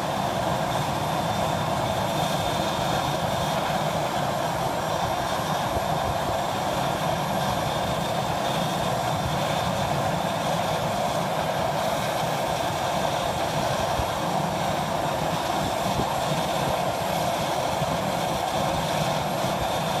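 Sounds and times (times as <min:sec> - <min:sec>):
turboprop engine running: 0:00.0 - 0:20.0.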